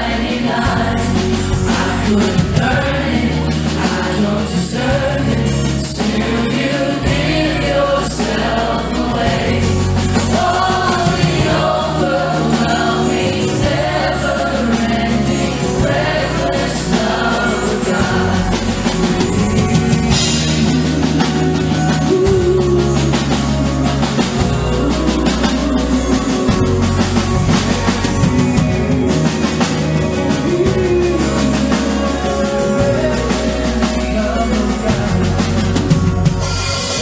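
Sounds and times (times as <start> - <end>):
bass notes: 0.0 - 37.0
drums: 0.0 - 37.0
person singing: 0.0 - 37.0
rock worship band playing: 0.0 - 37.0.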